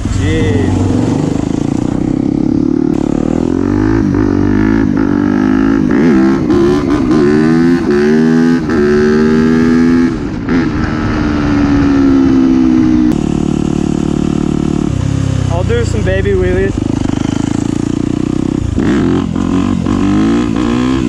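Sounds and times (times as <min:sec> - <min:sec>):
motorcycle engine revving loudly: 0:00.0 - 0:21.0.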